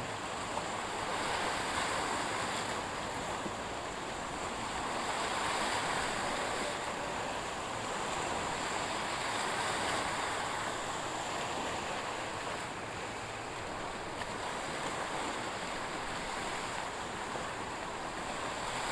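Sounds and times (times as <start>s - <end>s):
sea waves: 0.0s - 18.9s
wind: 0.0s - 18.9s.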